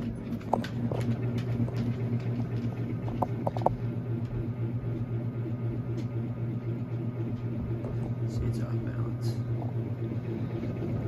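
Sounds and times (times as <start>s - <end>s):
ceiling fan humming with wobble: 0.0s - 11.0s.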